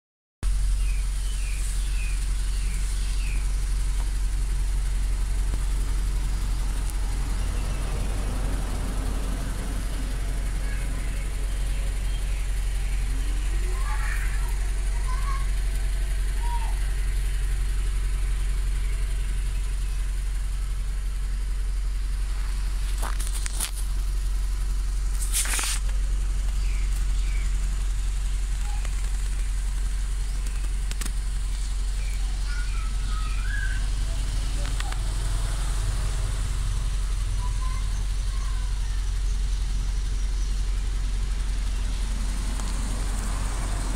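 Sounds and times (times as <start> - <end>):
car engine idling: 0.4 - 43.9.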